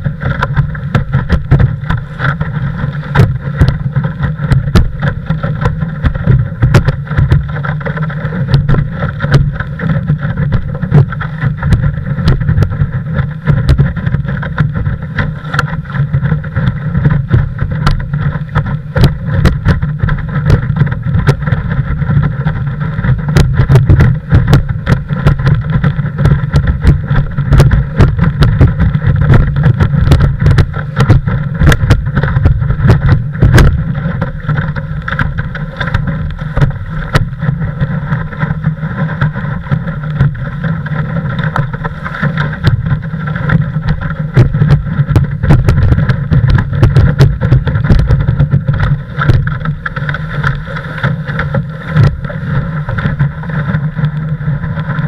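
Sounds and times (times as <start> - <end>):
hull slapping on water: 0.0 - 55.0
rush of wind and water: 0.0 - 55.0.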